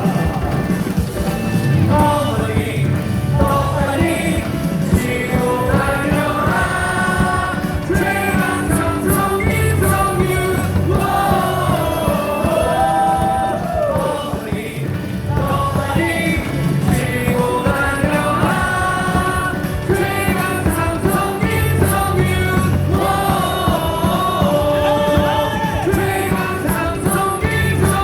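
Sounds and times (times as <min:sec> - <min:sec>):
rock song over loudspeakers: 0:00.0 - 0:28.0.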